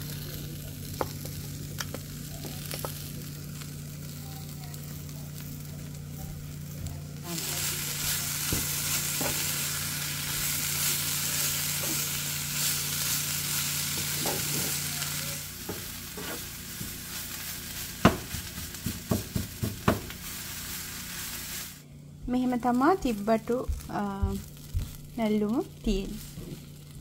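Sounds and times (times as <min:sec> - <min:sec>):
food sizzling in hot oil: 0:00.0 - 0:21.8, 0:22.4 - 0:27.0.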